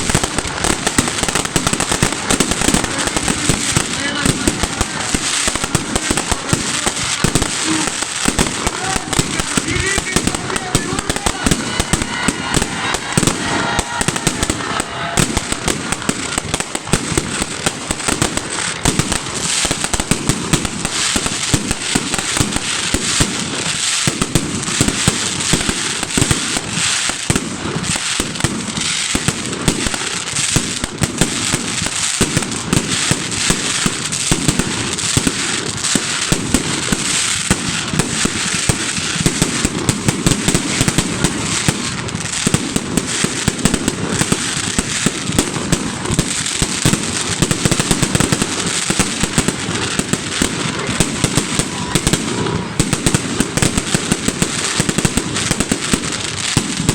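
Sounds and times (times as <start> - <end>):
fireworks crackling pops: 0.0 - 56.9.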